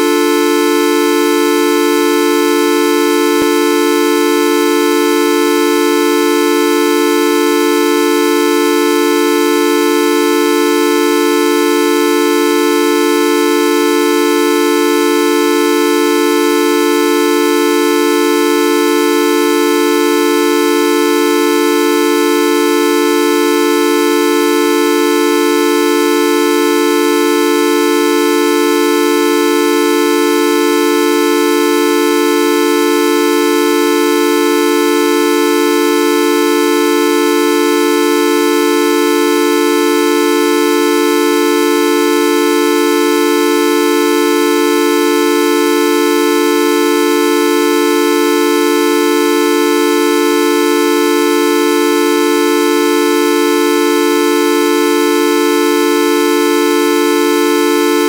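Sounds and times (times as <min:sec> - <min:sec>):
horn-like electronic tone: 0:00.0 - 0:58.0.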